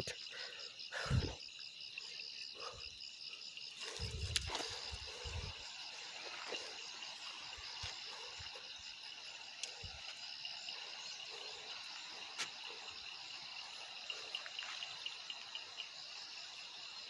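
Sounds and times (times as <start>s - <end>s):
pulsing night insects chorus: 0.0s - 17.0s.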